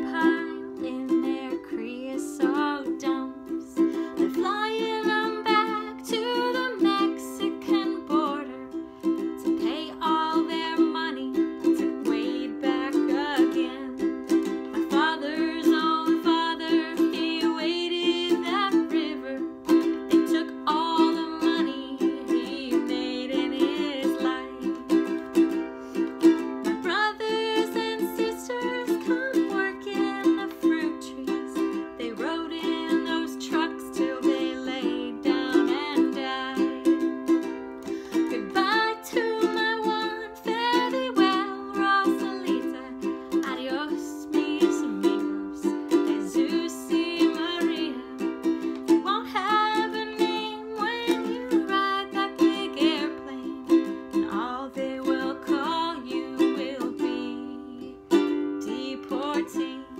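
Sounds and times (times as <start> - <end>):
strummed ukulele: 0.0 - 59.9
woman singing folk song: 0.0 - 59.9.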